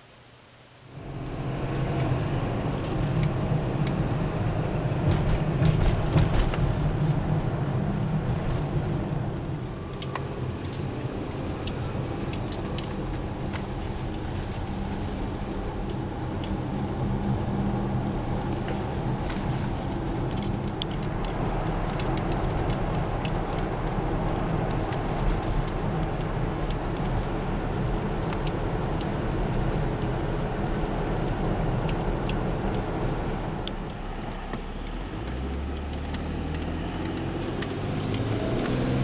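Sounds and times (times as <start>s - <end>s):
car interior road rumble: 0.9s - 39.0s.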